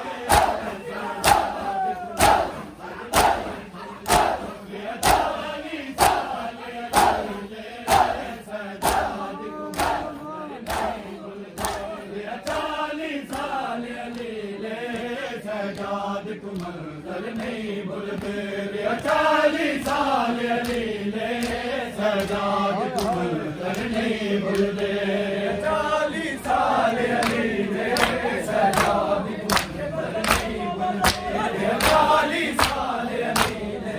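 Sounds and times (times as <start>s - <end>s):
men chanting in unison: 0.0s - 33.9s.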